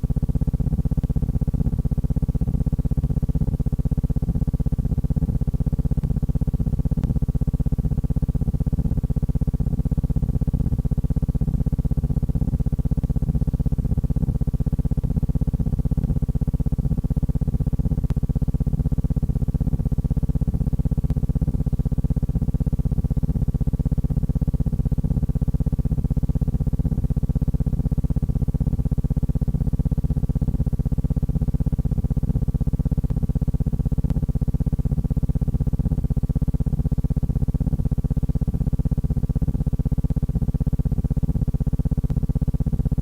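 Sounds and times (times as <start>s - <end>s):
low pulsing buzzing drone: 0.0s - 43.0s.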